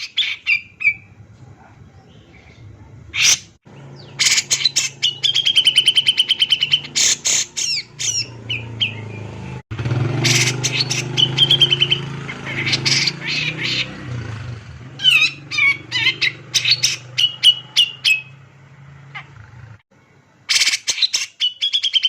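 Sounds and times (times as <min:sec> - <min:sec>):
bulbul singing: 0:01.9 - 0:19.4, 0:20.5 - 0:22.0.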